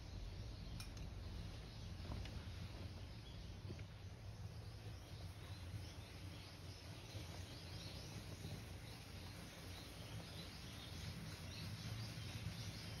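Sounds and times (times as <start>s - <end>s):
faint bird chirps: 0.0s - 13.0s
low steady hum: 0.0s - 13.0s.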